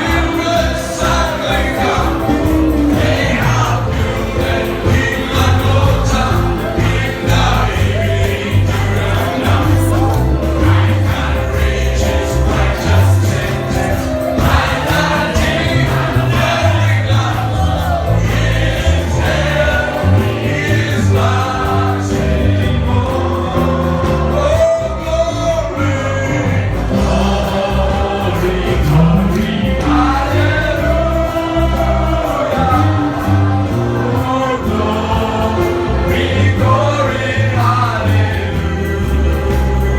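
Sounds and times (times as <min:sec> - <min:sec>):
bass-heavy band accompaniment: 0:00.0 - 0:39.9
choir singing: 0:00.0 - 0:39.9.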